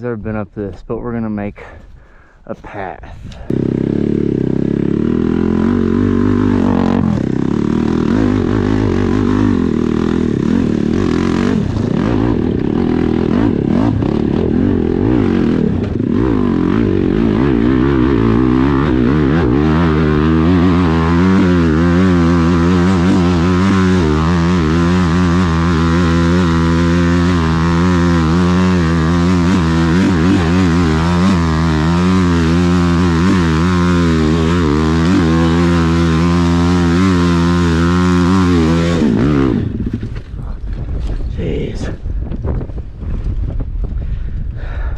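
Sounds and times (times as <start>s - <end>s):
dirt bike engine revving: 3.3s - 40.3s.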